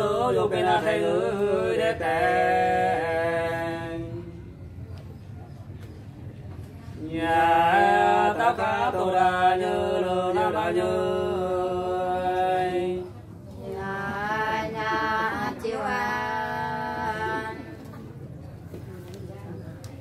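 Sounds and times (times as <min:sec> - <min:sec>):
unaccompanied folk singing: 0:00.0 - 0:04.9, 0:07.0 - 0:18.3.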